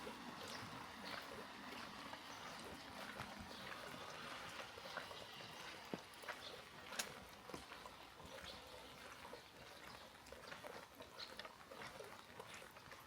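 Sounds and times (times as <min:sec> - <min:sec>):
small drips and ticks: 0:00.0 - 0:13.0.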